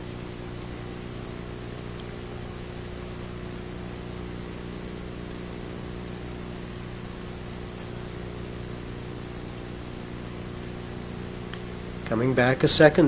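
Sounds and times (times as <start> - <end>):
low even hum: 0.0 - 13.0
steady hiss: 0.0 - 13.0.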